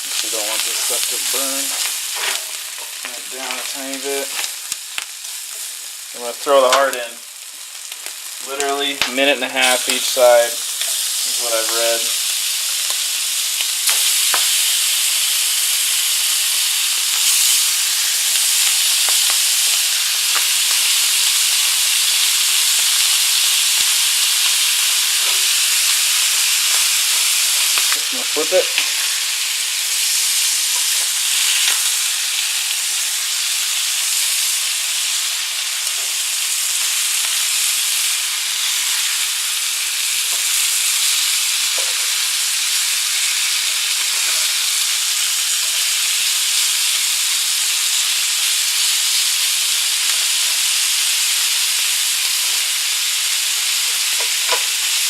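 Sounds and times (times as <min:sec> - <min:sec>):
food sizzling in butter: 0:00.0 - 0:55.0.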